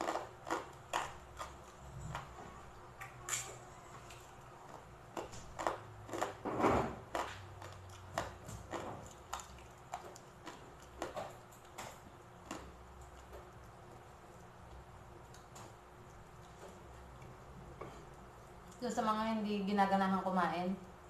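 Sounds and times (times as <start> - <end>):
crunchy chewing: 0.0 - 18.8.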